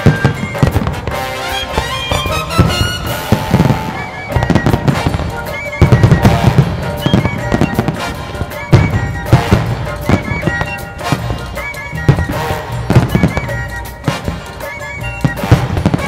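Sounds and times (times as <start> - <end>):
firework shells bursting: 0.0 - 16.0
music: 0.0 - 16.0.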